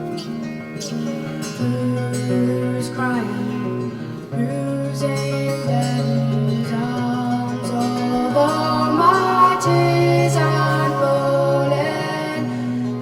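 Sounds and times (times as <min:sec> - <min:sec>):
acoustic guitar: 0:00.0 - 0:13.0
person singing: 0:00.0 - 0:13.0.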